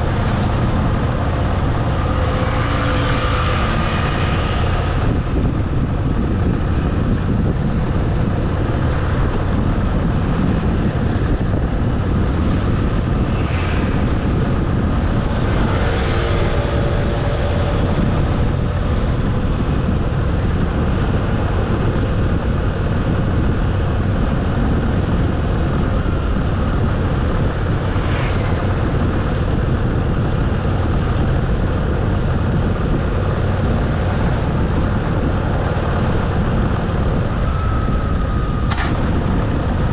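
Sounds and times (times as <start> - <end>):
motorcycle engine and wind rush: 0.0 - 39.9.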